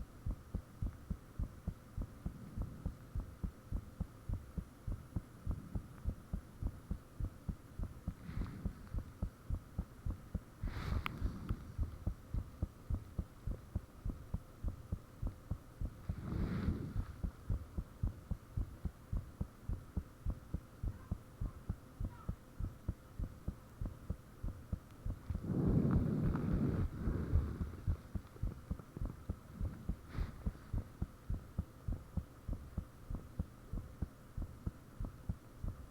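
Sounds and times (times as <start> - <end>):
heartbeat thuds: 0.0 - 35.9
steady hum: 0.0 - 35.9.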